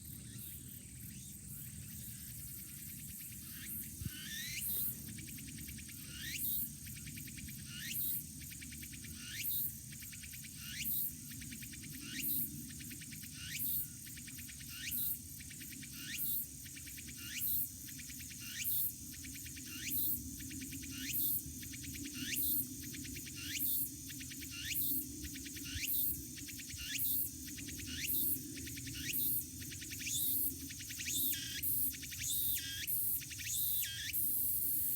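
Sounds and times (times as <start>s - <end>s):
cicada calling: 0.1s - 34.9s.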